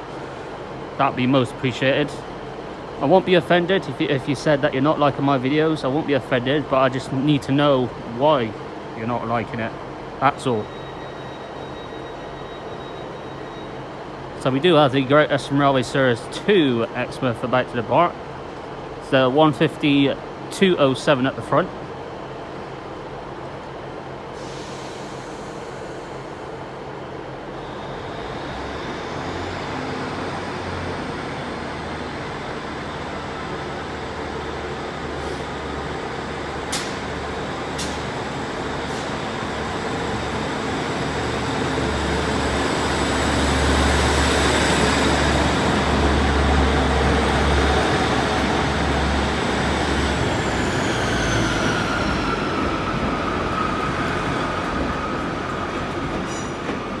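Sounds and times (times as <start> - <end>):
diesel train engines rumbling: 0.0 - 57.0.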